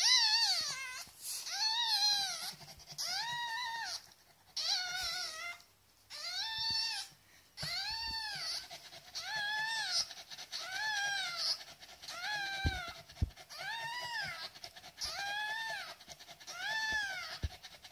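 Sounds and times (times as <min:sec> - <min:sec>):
puppy whining cries: 0:00.0 - 0:17.9.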